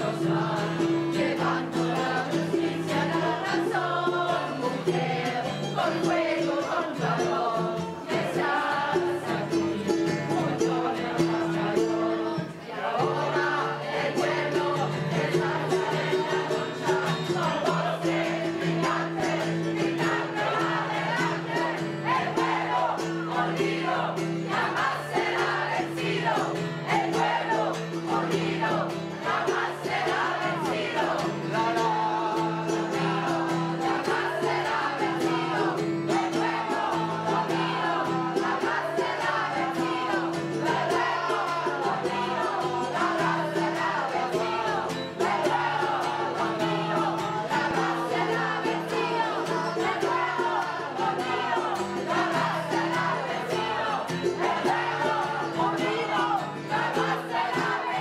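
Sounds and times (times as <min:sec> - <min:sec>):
mixed choir singing pop song: 0:00.0 - 0:58.0.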